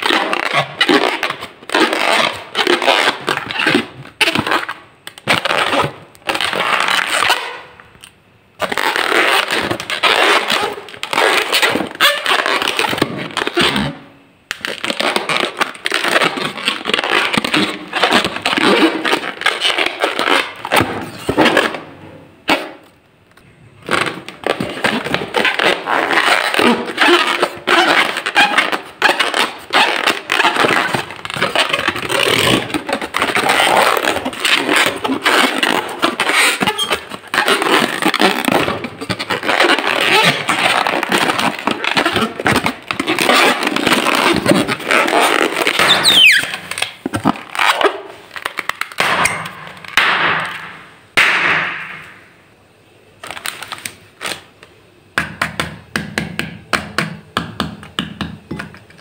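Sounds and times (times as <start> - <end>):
balloon squeal: 0.0 - 7.8, 8.6 - 23.0, 23.8 - 50.7
balloons squeaking and scraping: 0.0 - 23.1, 23.8 - 51.2, 53.2 - 54.7.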